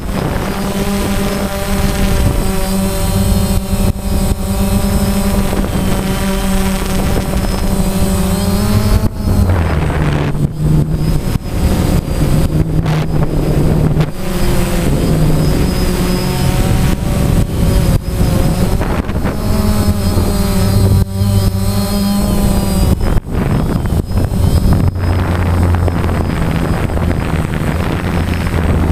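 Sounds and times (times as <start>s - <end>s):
drone propellers humming: 0.0s - 28.9s
wind noise on microphone: 0.0s - 28.9s.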